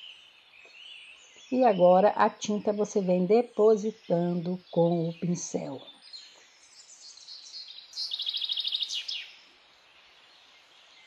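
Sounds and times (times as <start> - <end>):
small bird singing: 0.0 - 11.0.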